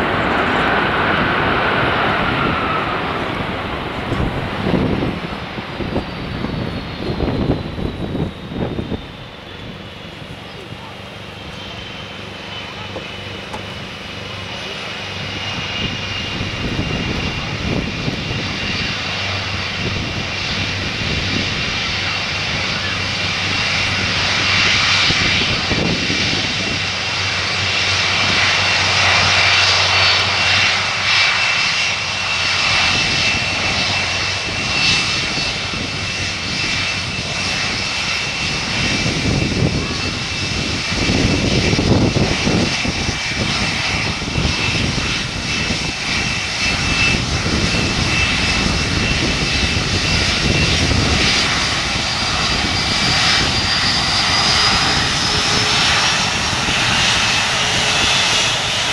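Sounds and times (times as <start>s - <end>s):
high jet engine whine: 0.0s - 58.9s
jet roar: 0.0s - 58.9s.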